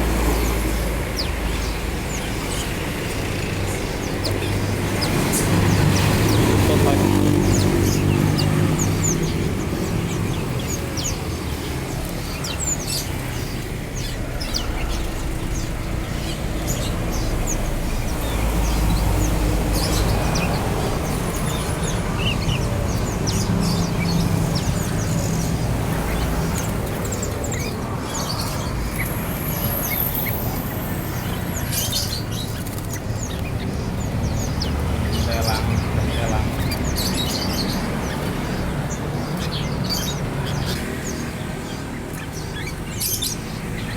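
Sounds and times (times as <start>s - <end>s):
caged birds chirping: 0.0s - 43.9s.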